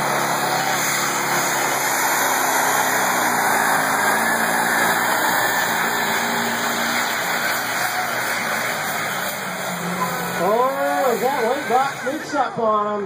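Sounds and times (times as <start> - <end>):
truck engine at full throttle: 0.0 - 13.0.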